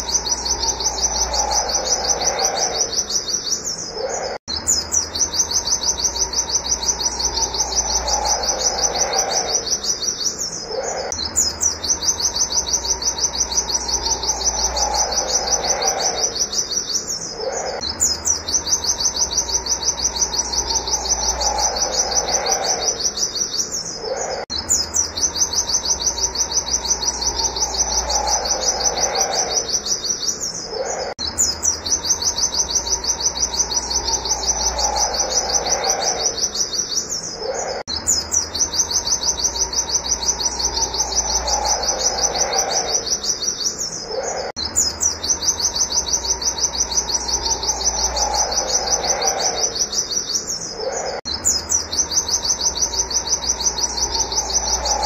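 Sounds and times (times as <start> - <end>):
bird high trill of chirps: 0.0 - 55.0
lower bird call: 0.0 - 55.0.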